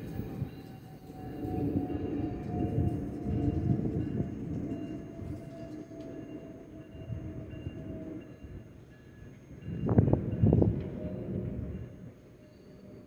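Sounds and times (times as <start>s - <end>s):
faint steady tones: 0.0s - 13.0s
train rumbling on tracks: 0.0s - 13.0s.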